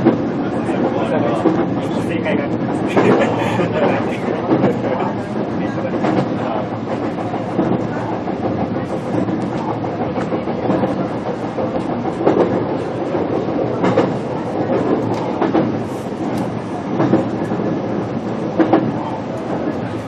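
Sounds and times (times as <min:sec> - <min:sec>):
train wheels rumbling on rail: 0:00.0 - 0:20.0
wheels clacking over rail joints: 0:00.0 - 0:20.0.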